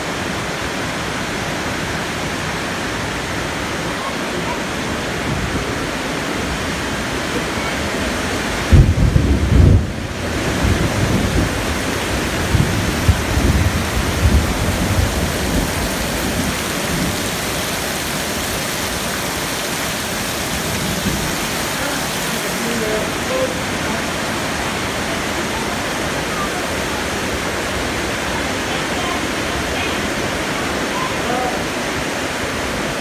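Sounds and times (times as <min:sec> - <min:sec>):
heavy rain and running water: 0:00.0 - 0:33.0.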